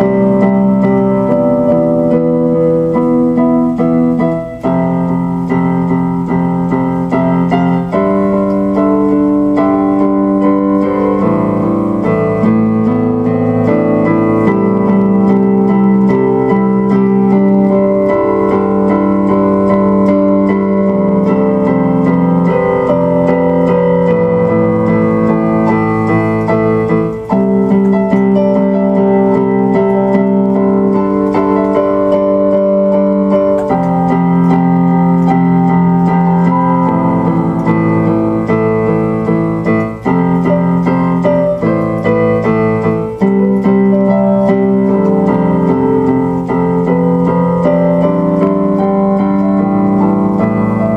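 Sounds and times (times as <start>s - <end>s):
keyboard music with slow chords: 0.0s - 50.9s.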